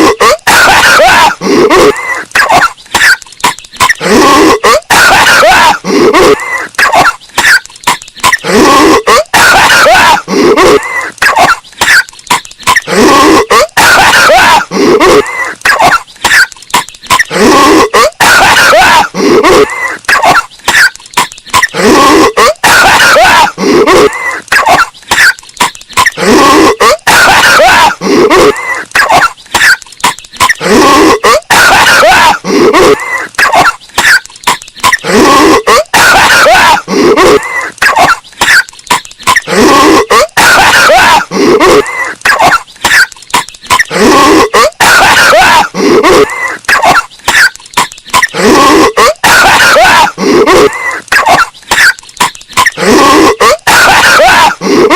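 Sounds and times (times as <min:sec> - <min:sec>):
distorted cartoon character coughing: 0:00.0 - 0:54.9.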